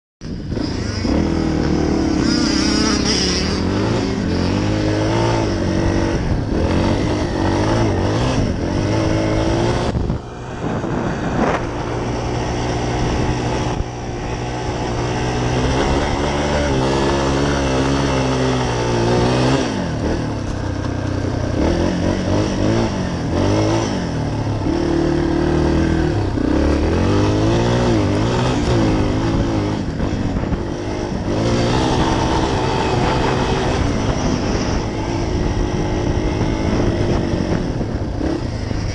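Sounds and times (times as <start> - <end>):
dirt bike engine revving: 0.2 - 38.9.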